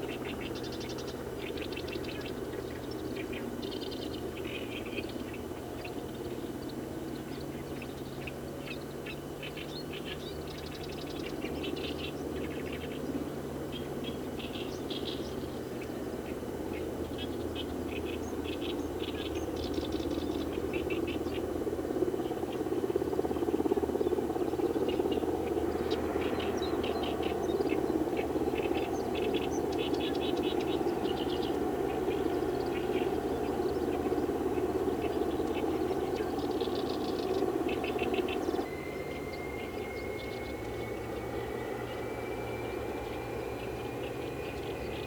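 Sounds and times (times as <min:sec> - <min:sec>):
steady mechanical hum: 0:00.0 - 0:45.0.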